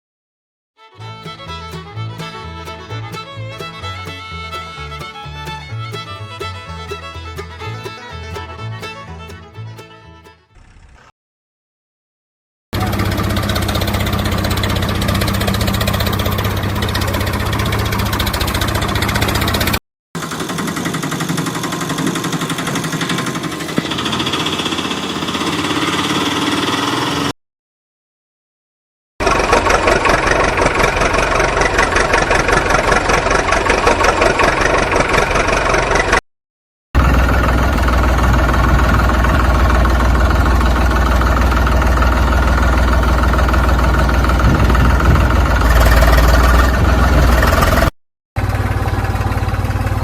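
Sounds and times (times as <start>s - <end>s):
engine running: 0.8s - 10.5s, 12.8s - 27.4s, 29.2s - 36.2s, 37.0s - 50.0s.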